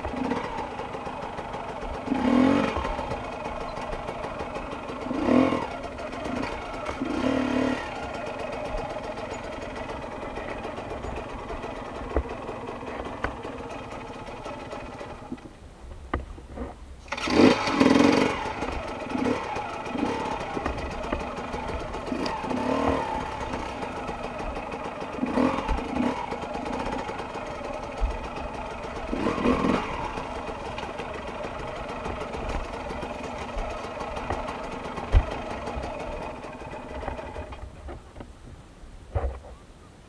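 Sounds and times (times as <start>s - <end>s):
dirt bike engine revving: 0.0s - 15.4s, 17.0s - 37.6s.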